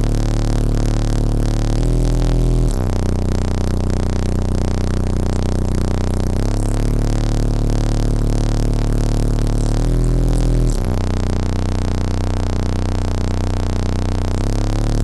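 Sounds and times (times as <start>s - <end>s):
deep subwoofer bass notes: 0.0s - 15.0s.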